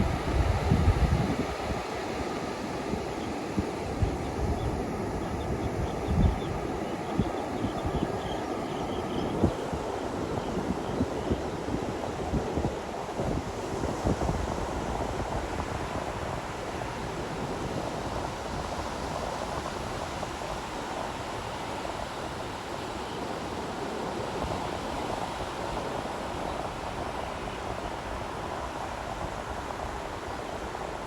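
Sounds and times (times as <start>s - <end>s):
waves rushing on a beach: 0.0s - 31.0s.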